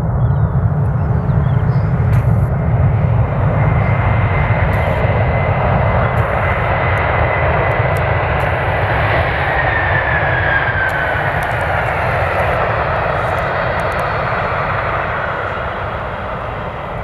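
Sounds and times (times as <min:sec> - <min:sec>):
jet engines at high power: 0:00.0 - 0:17.0
thin fan whine: 0:00.9 - 0:17.0.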